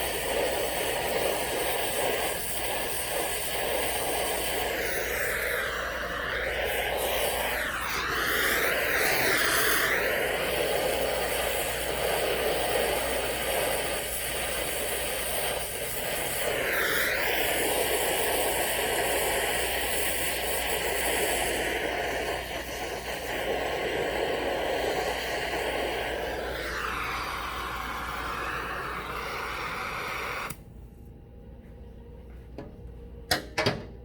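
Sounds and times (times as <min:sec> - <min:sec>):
torch flame hissing: 0:00.0 - 0:30.6.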